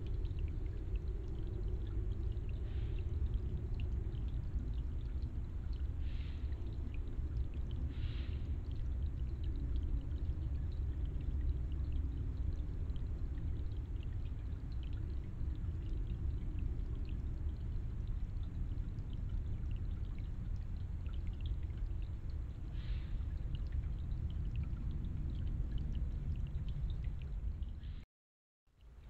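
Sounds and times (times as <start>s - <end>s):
stream trickling over rocks: 0.0s - 28.0s, 28.7s - 29.0s
water dripping ticks: 0.0s - 28.0s, 28.8s - 29.0s.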